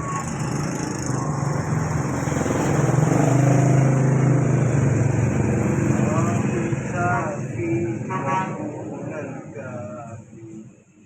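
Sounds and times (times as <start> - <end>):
vehicle engine passing: 0.0 - 9.8.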